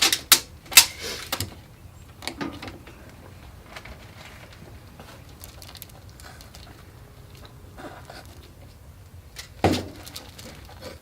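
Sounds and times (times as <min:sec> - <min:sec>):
faint rustling: 0:00.8 - 0:11.0.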